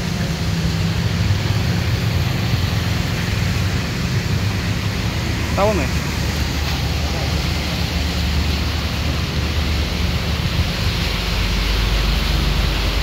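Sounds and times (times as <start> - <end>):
heavy low rumble: 0.0 - 13.0
water splashed by vehicle wheels: 0.0 - 13.0.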